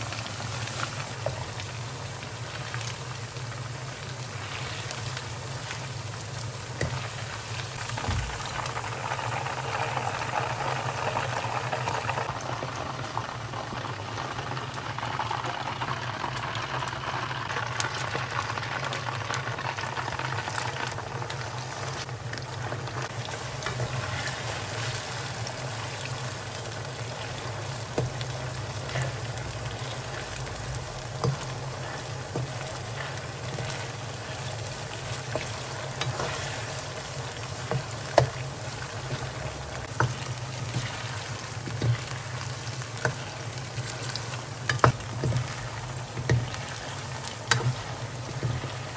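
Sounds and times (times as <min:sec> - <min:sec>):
meat deep-frying in oil: 0:00.0 - 0:48.9.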